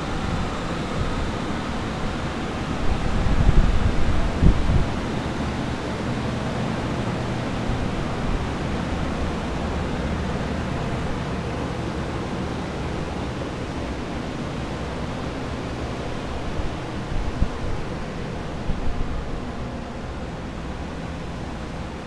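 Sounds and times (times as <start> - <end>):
low hum: 0.0 - 22.0
steady rush of air: 0.0 - 22.0.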